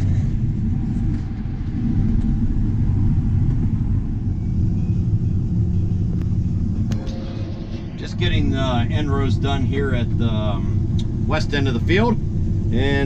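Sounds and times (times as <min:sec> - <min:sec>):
combine harvester engine rumble: 0:00.0 - 0:13.0.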